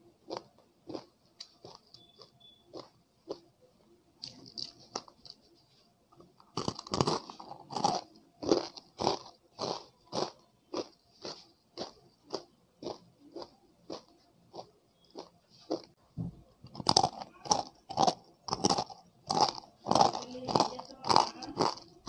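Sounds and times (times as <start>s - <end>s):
crunchy snack bitten and chewed: 0.2s - 3.4s, 4.2s - 5.4s, 6.4s - 15.9s, 16.7s - 22.0s.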